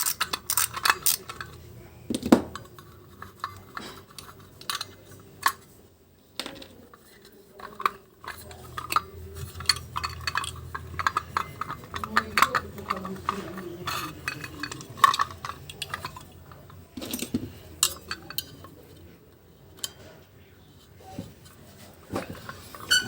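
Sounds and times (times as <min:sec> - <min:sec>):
metal parts and tools clinking: 0:00.0 - 0:05.8, 0:06.4 - 0:20.3, 0:21.0 - 0:23.0.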